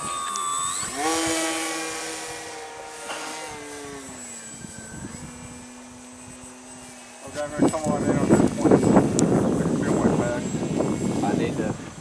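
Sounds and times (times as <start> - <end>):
model airplane motor whine: 0.0 - 12.0.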